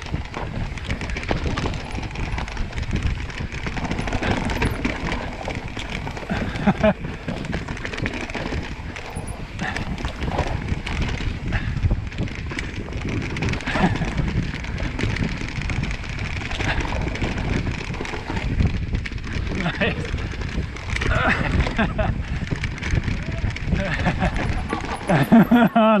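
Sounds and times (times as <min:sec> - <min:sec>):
wind on microphone: 0:00.0 - 0:25.8
bike knocks and rattles: 0:00.0 - 0:26.0
bike tyres rumbling on dirt: 0:00.0 - 0:26.0.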